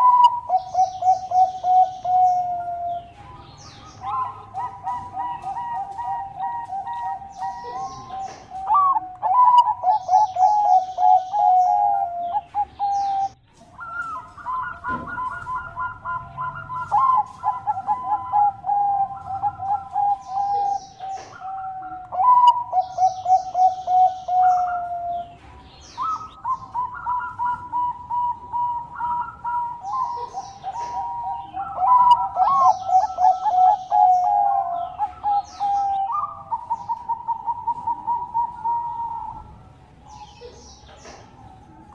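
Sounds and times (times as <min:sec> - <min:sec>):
doves cooing: 0:00.0 - 0:41.9
small birds chirping: 0:00.0 - 0:41.9.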